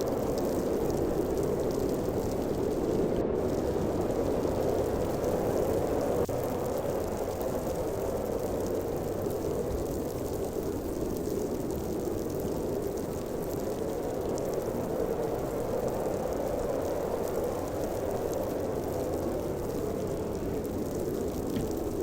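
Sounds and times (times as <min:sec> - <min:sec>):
blizzard wind howling: 0:00.0 - 0:22.0.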